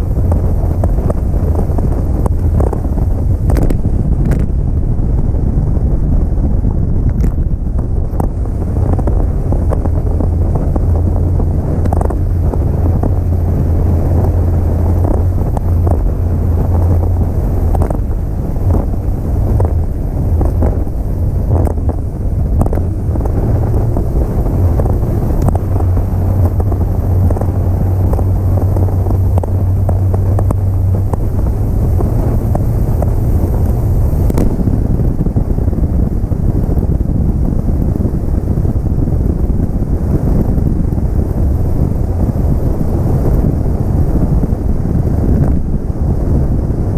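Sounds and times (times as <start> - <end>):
hull slapping waves: 0.0 - 46.9
outboard motor drone: 0.0 - 46.9
wind buffeting microphone: 0.0 - 46.9.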